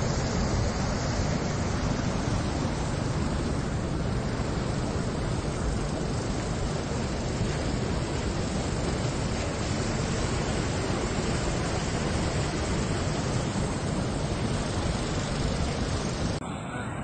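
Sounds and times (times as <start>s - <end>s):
floodwater rushing: 0.0s - 16.4s.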